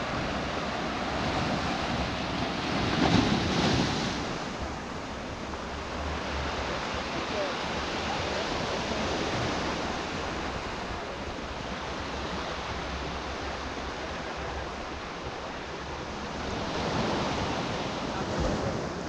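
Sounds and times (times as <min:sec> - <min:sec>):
ocean surf washing ashore: 0:00.0 - 0:19.0.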